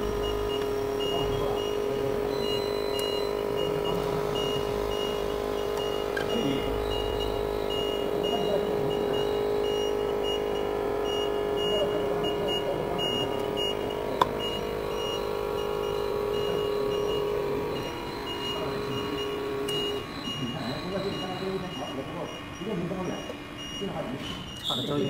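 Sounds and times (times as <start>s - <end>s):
machine electrical hum: 0.0s - 24.9s
faint high beep pulsing: 0.0s - 25.0s.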